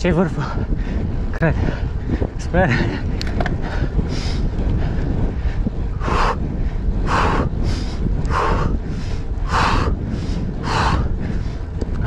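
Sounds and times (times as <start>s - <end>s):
wind on microphone: 0.0s - 12.0s
person breathing hard: 0.5s - 11.8s.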